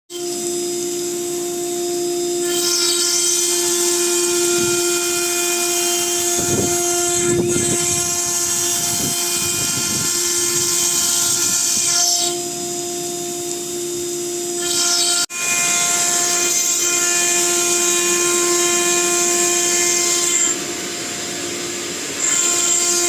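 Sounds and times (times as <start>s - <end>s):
bit cutting into stone: 0.1s - 12.6s, 14.5s - 23.0s
router spindle whine: 0.1s - 23.0s.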